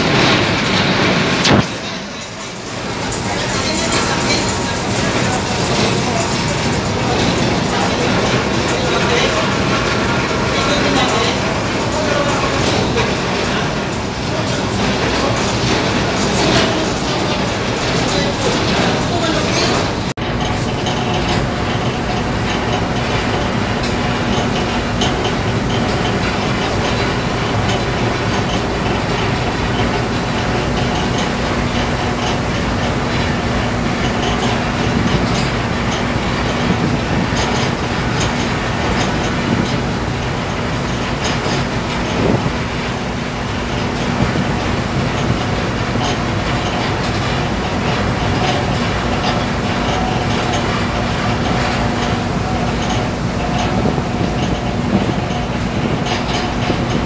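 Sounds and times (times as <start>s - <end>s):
ship engine hum: 0.0s - 57.0s
water rushing along hull: 0.0s - 57.0s.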